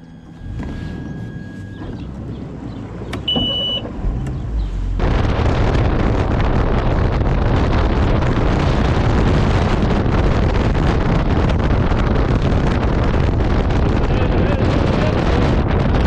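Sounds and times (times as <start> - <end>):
outboard motor: 0.0 - 16.0
wind buffeting microphone: 0.4 - 16.0.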